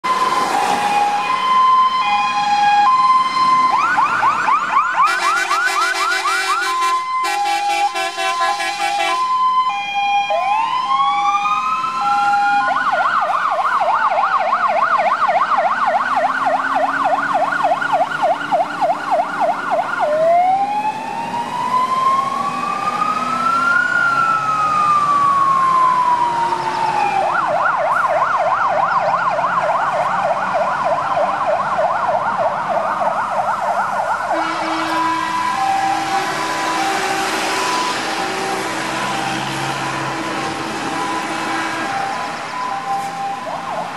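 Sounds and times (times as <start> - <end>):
fire engine sirens: 0.0 - 43.9.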